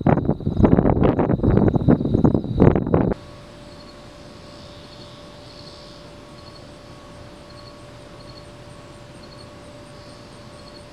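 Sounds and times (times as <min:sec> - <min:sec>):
faint steady hum: 0:00.0 - 0:10.9
fast high insect ticking: 0:00.0 - 0:10.9
insects chirping: 0:00.0 - 0:10.9.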